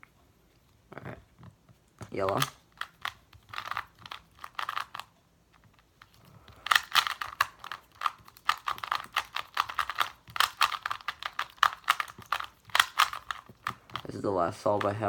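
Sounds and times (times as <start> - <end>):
speed cube plastic clicks: 2.0 - 15.0.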